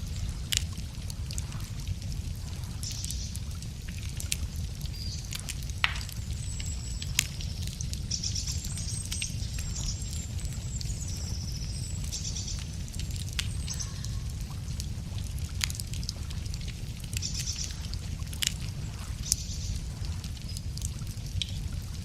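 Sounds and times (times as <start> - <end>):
songbirds singing: 0.0 - 14.8, 16.3 - 20.9
campfire crackling and popping: 0.0 - 22.0.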